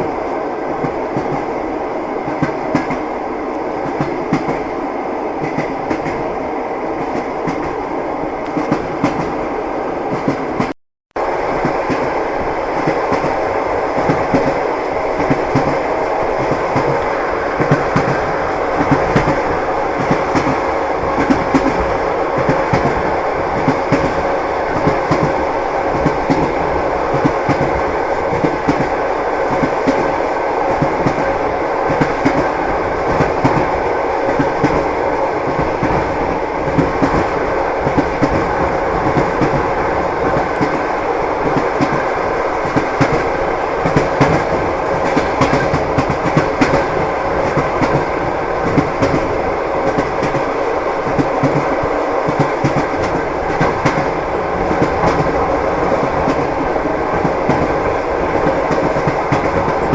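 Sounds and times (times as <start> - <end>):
train wheels clacking on rails: 0.0 - 6.4, 8.4 - 9.4, 10.1 - 59.9
train rumble: 0.0 - 59.9.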